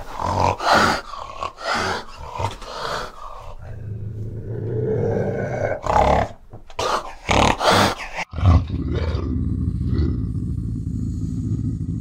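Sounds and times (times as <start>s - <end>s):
animal growling: 0.0s - 12.0s.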